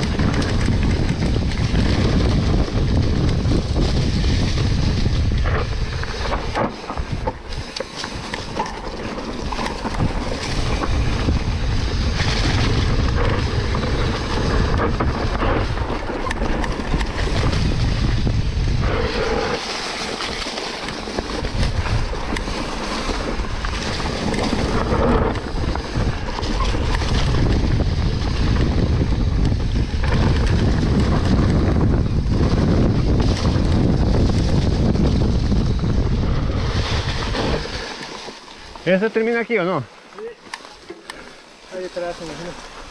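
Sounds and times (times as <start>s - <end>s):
bike knocks and rattles: 0.0s - 38.9s
wind rushing over microphone: 0.0s - 40.4s.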